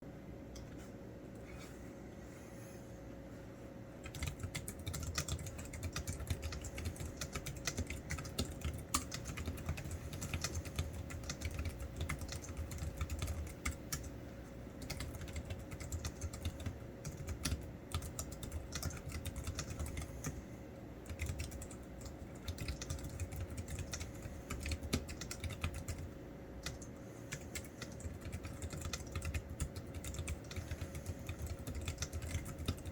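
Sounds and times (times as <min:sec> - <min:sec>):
faint steady hum: 0:00.0 - 0:32.9
fast keyboard typing: 0:04.0 - 0:20.4, 0:21.0 - 0:32.9.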